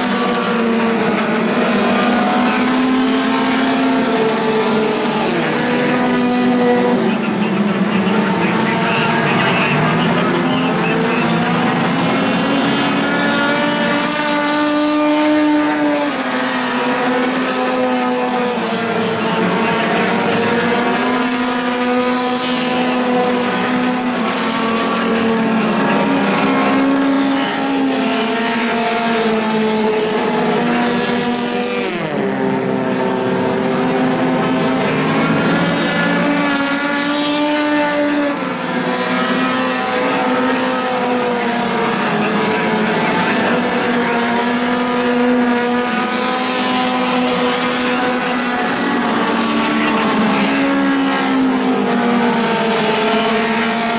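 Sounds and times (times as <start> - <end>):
race car engines: 0.0 - 53.9.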